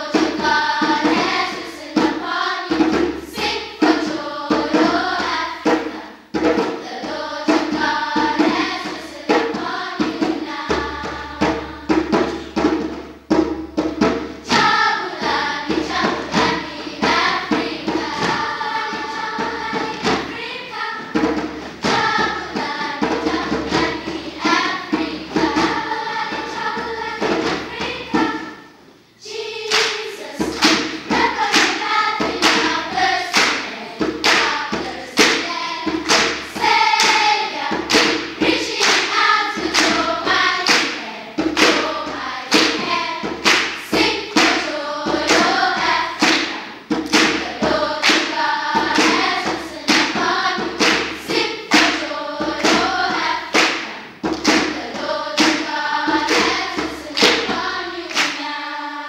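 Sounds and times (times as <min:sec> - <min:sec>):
children's choir singing: 0:00.0 - 0:59.0
hand drum beating: 0:00.1 - 0:20.4, 0:21.0 - 0:28.5, 0:30.4 - 0:58.2.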